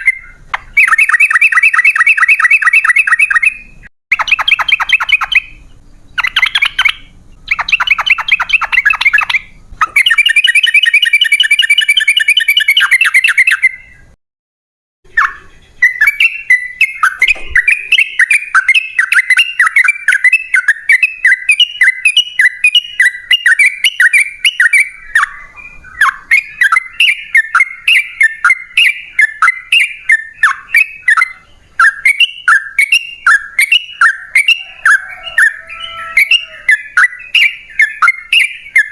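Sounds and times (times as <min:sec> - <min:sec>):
bird rapid chattering notes: 0:00.0 - 0:14.2, 0:15.1 - 0:38.9.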